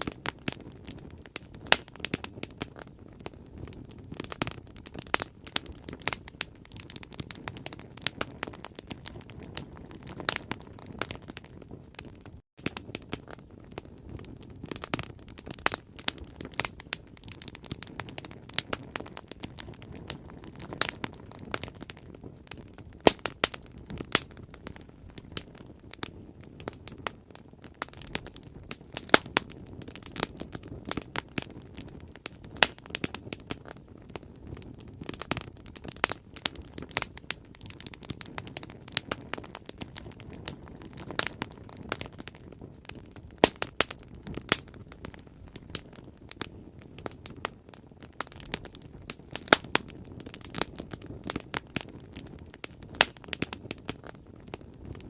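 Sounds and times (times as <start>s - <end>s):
bonfire pops and crackles: 0.0s - 55.0s
low rumble of flames: 0.0s - 55.0s.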